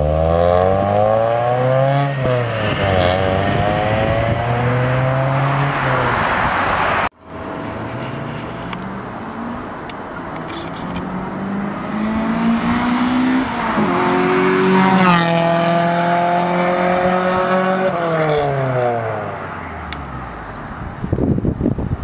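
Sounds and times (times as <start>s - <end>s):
raspy car engine accelerating: 0.0s - 9.7s, 11.1s - 19.4s.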